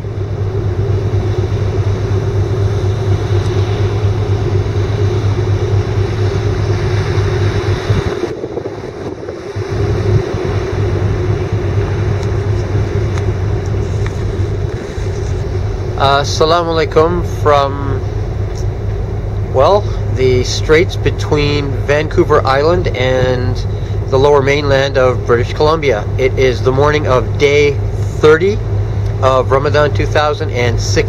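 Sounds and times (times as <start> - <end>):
ferry engines droning: 0.0 - 31.0.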